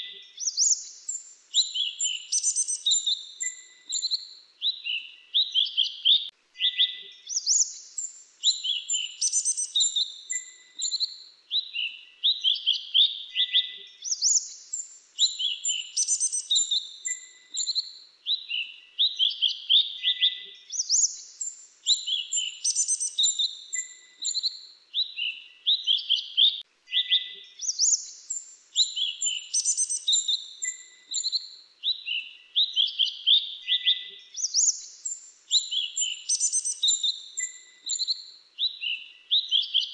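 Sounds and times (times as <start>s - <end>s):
bird chirps and trills: 0.0s - 12.8s, 13.4s - 39.9s.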